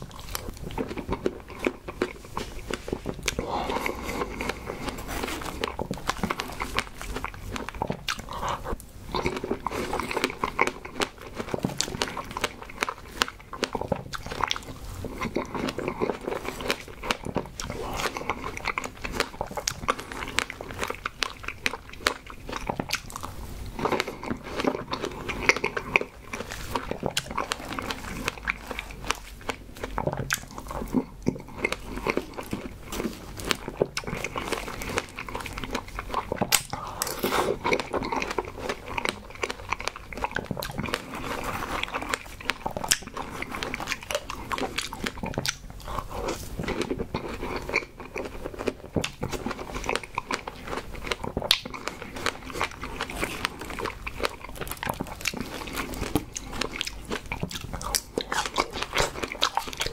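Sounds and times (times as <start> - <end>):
chewing with mouth clicks: 0.0 - 59.9.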